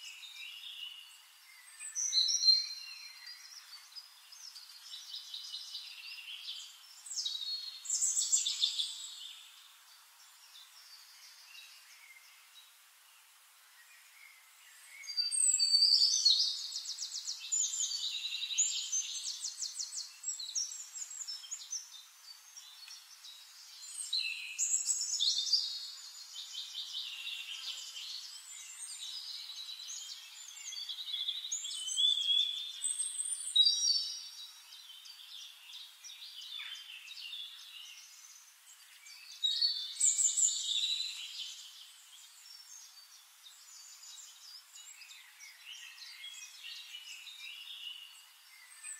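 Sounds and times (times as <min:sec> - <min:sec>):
quiet bird chirping: 0:00.0 - 0:48.9
songbird trills and chirps: 0:00.0 - 0:48.9.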